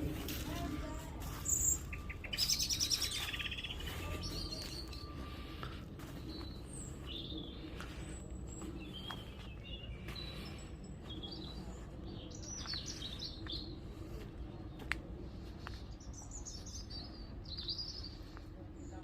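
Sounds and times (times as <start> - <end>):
wild birds chirping: 1.3 - 19.0.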